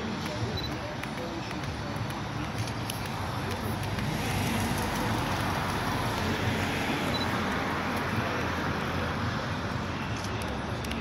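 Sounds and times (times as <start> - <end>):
road traffic hiss and rumble: 0.0 - 11.0.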